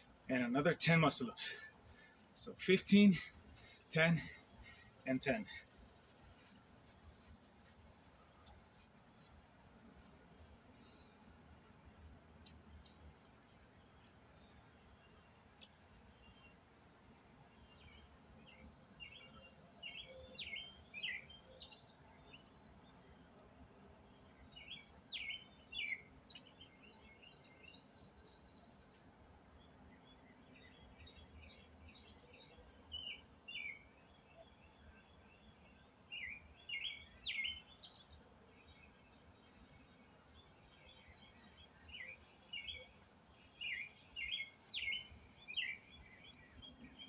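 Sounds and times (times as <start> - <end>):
songbird chirping: 0.0 - 47.0.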